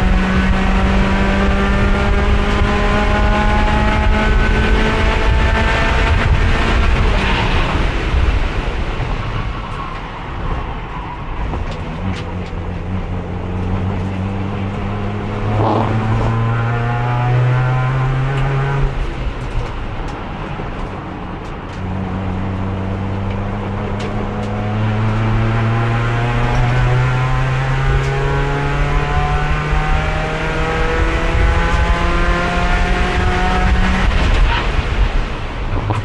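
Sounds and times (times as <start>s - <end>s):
racing car engine under load: 0.0s - 36.0s.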